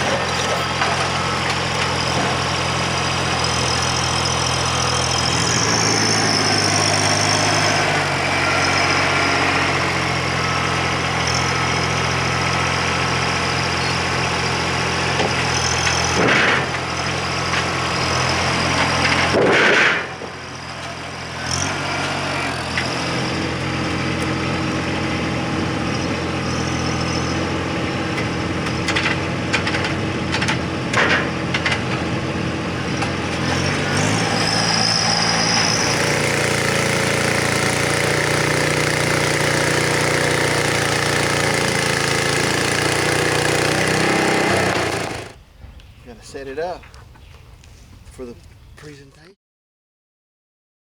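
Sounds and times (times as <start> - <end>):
engine running: 0.0 - 45.5.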